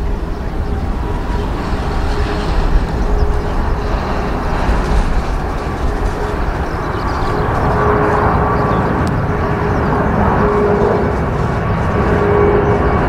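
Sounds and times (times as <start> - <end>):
jet engine roar at takeoff: 0.0 - 13.0.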